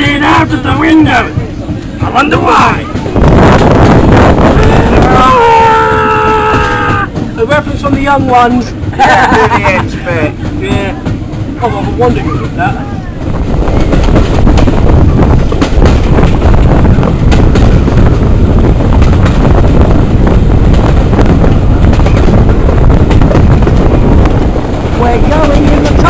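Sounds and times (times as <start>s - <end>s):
passenger train running: 0.0s - 26.0s
wind buffeting microphone: 0.0s - 26.0s.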